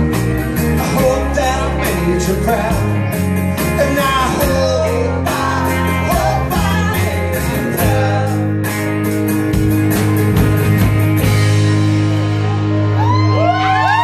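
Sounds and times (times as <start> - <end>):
country-rock band playing: 0.0 - 14.0.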